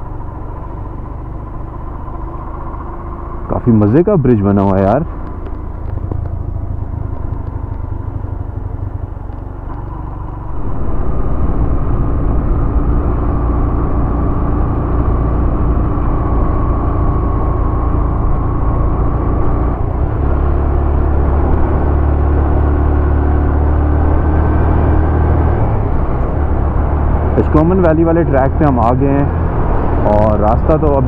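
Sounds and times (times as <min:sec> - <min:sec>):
motorcycle engine droning: 0:00.0 - 0:31.0.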